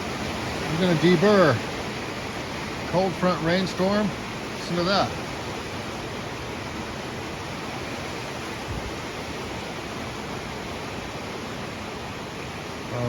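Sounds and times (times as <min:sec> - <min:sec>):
rain pouring down: 0:00.0 - 0:13.0.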